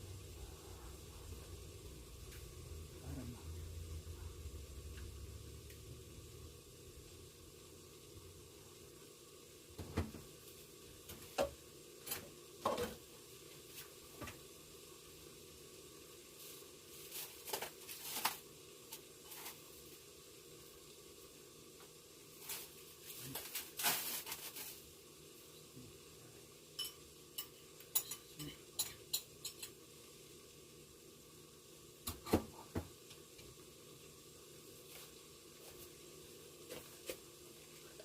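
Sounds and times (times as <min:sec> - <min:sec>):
food sizzling in a pan: 0:00.0 - 0:38.0.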